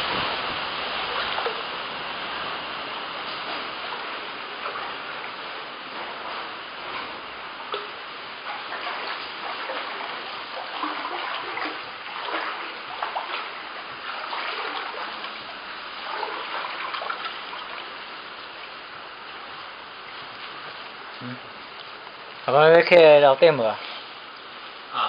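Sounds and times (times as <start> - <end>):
floodwater splashing: 0.0 - 22.4
steady water rush: 0.0 - 25.0.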